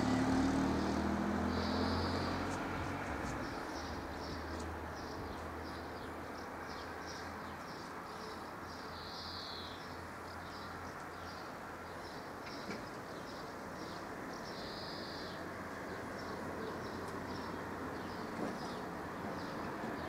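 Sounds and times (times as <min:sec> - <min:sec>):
faint traffic hum: 0:00.0 - 0:20.0
small birds chirping: 0:00.9 - 0:20.0.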